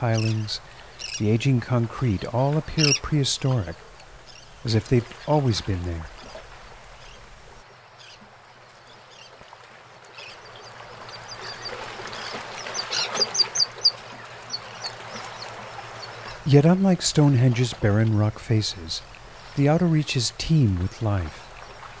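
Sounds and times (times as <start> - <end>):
seabirds calling: 0.0 - 22.0
water lapping: 0.0 - 22.0.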